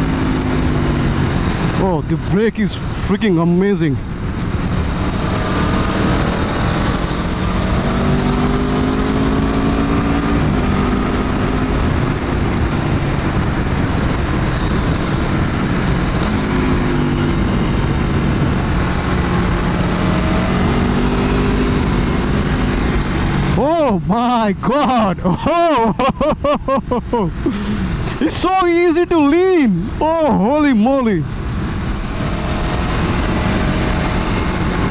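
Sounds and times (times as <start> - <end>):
motorcycle engine accelerating: 0.0 - 2.3, 4.0 - 29.0, 29.9 - 34.9
wind rush: 0.0 - 34.9.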